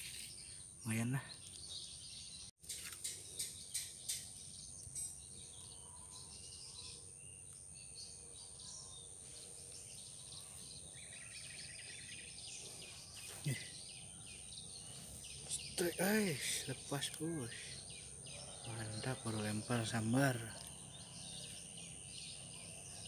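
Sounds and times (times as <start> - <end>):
bird chirps: 0.0 - 23.0.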